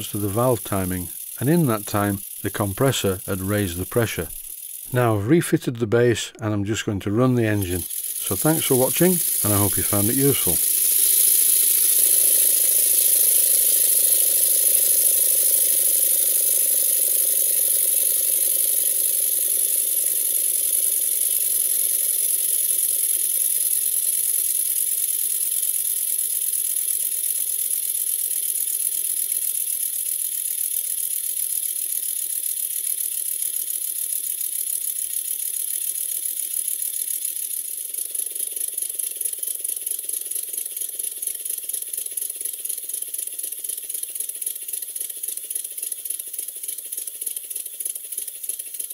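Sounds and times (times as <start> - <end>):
model steam engine exhaust beats: 0.0 - 48.9
valve gear rattle: 0.0 - 48.9.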